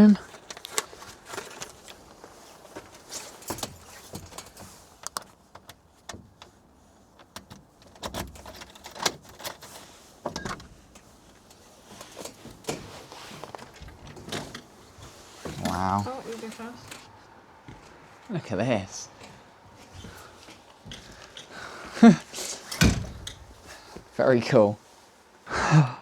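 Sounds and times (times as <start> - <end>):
knocks and rustles: 0.2 - 18.3, 19.1 - 24.2.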